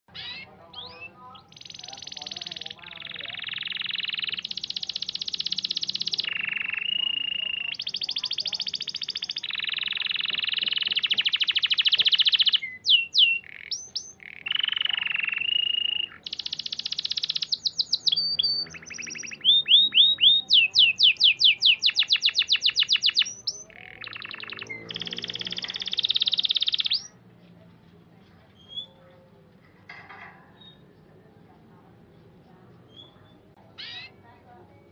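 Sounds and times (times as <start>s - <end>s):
canary singing trills: 0.1s - 27.6s, 28.5s - 29.4s, 32.3s - 34.9s.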